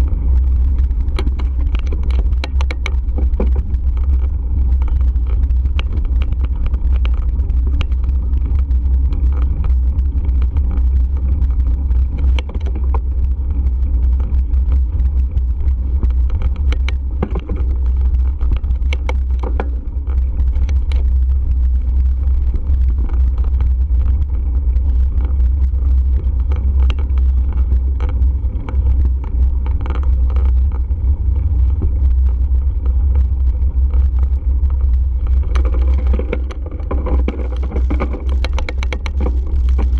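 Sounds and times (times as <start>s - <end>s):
small clicks and rattles: 0.0s - 39.9s
wind buffeting microphone: 0.0s - 39.9s.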